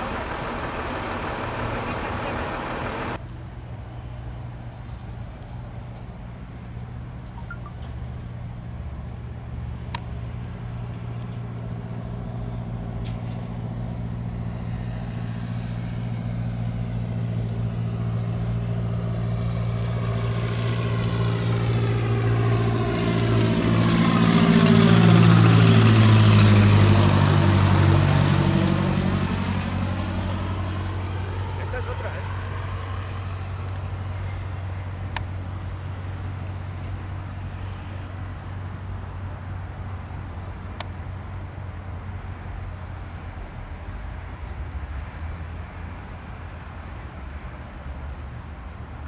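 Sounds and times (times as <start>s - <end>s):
propeller aircraft engine: 0.0s - 49.0s.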